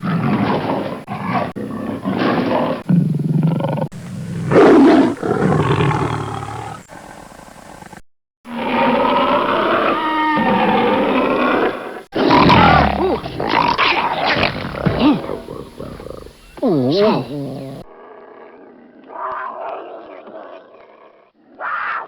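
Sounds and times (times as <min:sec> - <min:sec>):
lion roaring and growling: 0:00.0 - 0:22.0.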